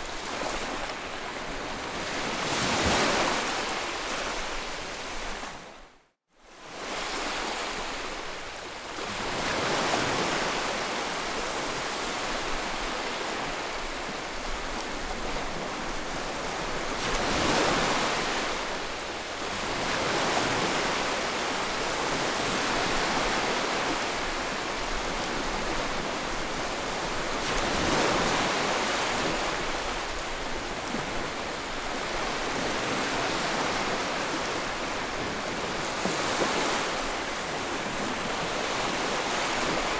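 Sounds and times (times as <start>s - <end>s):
sea waves breaking on shore: 0.0s - 5.8s, 6.5s - 39.9s.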